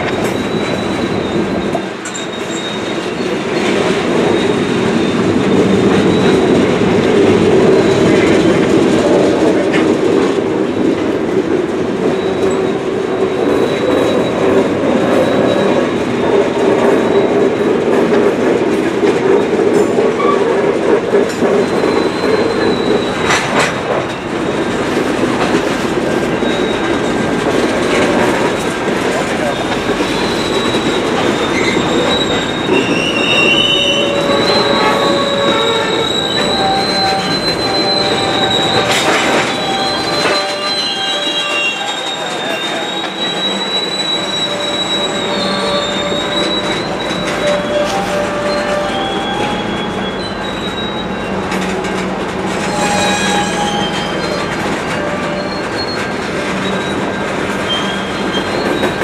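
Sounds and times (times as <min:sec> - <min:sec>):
high wheel squeal: 0:00.0 - 0:09.2, 0:12.0 - 0:17.9, 0:21.3 - 0:59.0
train wheels rumbling over rails: 0:00.0 - 0:59.0.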